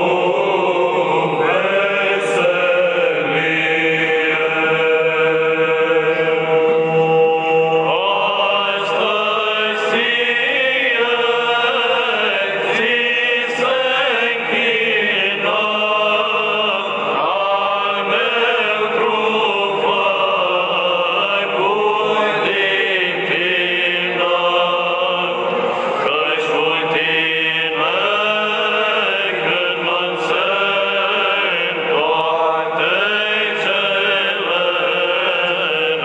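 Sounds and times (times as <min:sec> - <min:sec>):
voices chanting a hymn: 0:00.0 - 0:36.0.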